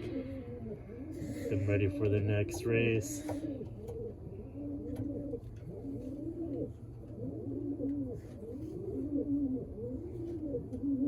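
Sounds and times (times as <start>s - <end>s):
low steady hum: 0.0s - 11.0s
pigeons cooing: 0.0s - 11.0s.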